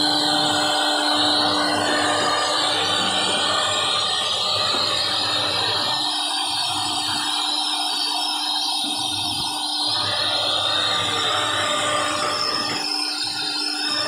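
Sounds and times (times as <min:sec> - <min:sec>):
router spindle cutting wood: 0:00.0 - 0:14.0.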